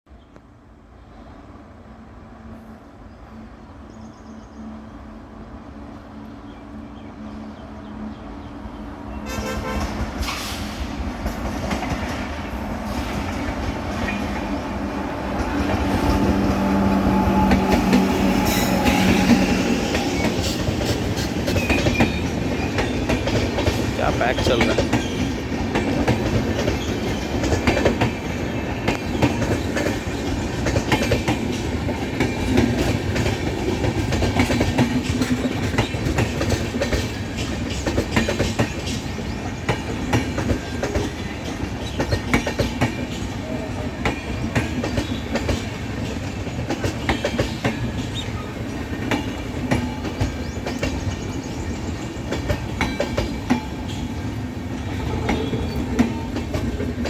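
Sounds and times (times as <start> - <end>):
train rumble: 1.1 - 57.0
train wheels clacking over rail joints: 9.4 - 14.7, 15.3 - 57.0.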